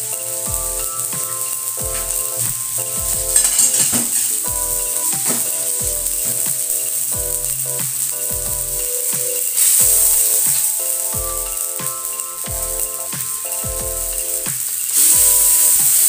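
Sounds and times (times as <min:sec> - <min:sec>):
background music: 0:00.0 - 0:16.0
spice paste sizzling in oil: 0:00.0 - 0:16.0.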